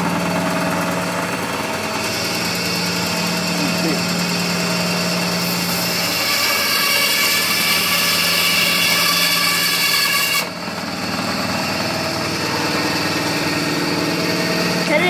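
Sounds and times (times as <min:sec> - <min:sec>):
saw motor hum: 0:00.0 - 0:15.0
band saw blade cutting coconut: 0:01.8 - 0:15.0.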